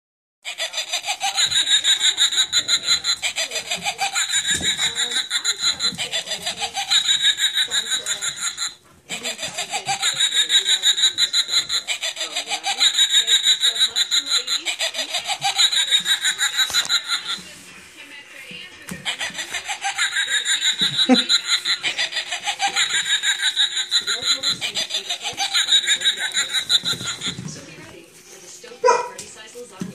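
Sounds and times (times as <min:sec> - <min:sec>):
electronic witch cackle: 0:00.8 - 0:17.4, 0:19.0 - 0:27.4.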